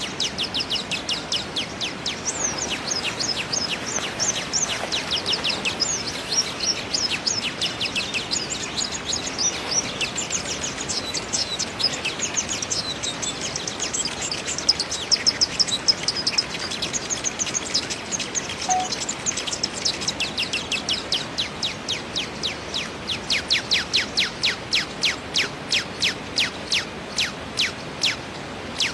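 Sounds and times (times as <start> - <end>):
small birds chirping: 0.0 - 28.9
steady background hiss: 0.0 - 28.9.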